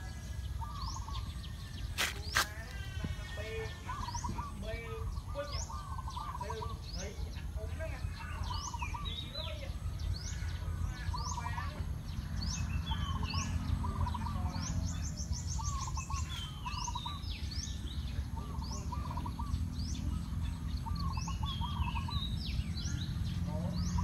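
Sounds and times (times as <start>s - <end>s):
birds chirping: 0.0s - 24.0s
repeated low bird notes: 0.0s - 24.0s.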